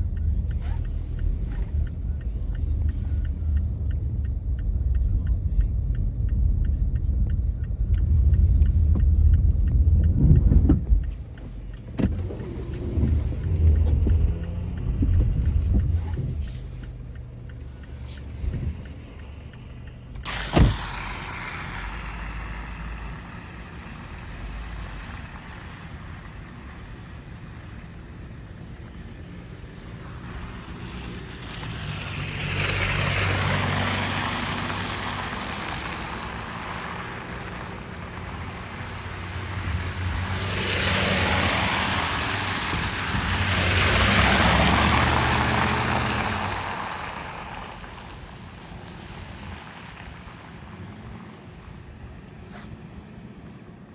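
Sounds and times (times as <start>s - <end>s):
car engine and tyre noise: 0.0s - 53.9s
traffic noise: 0.0s - 53.9s.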